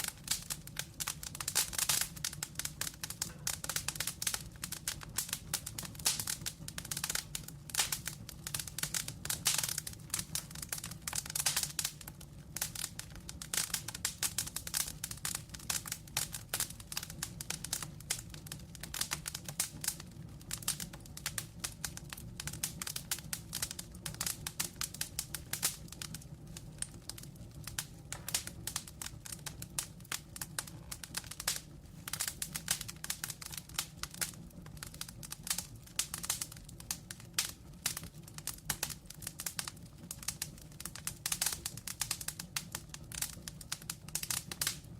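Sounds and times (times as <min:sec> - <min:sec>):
low rumble of flame: 0:00.0 - 0:44.9
wood fire crackling: 0:00.0 - 0:44.9.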